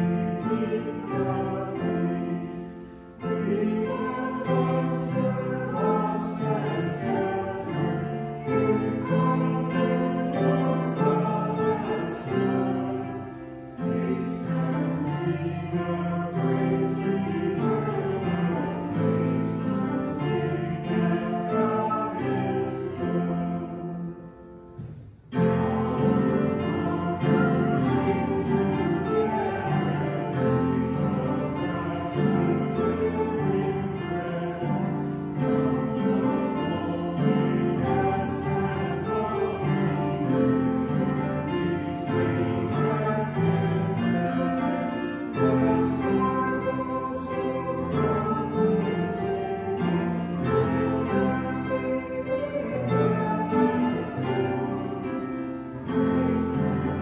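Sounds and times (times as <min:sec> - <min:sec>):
congregation singing a hymn: 0:00.0 - 0:57.0
instrumental accompaniment: 0:00.0 - 0:57.0.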